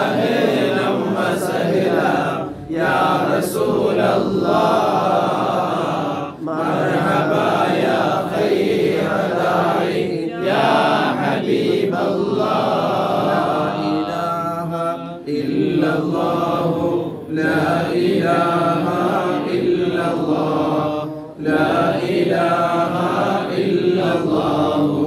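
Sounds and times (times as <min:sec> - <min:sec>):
men chanting a hymn: 0:00.0 - 0:25.0.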